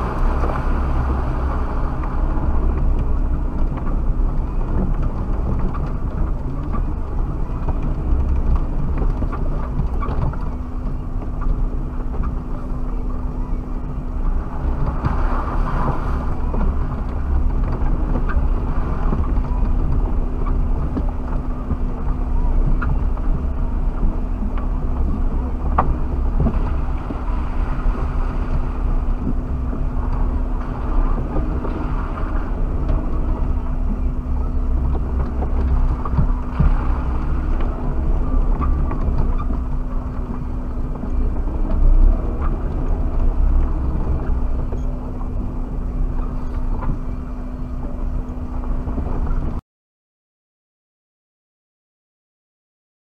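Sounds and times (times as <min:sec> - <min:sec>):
car engine drone from inside cabin: 0:00.0 - 0:49.6.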